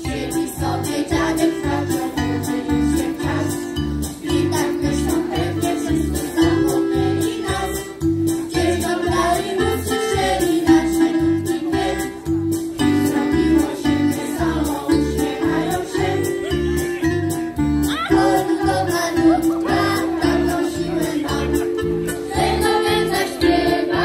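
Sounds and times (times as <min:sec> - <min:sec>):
group singing: 0:00.0 - 0:16.6, 0:18.0 - 0:24.0
electronic keyboard accompaniment: 0:00.0 - 0:24.0.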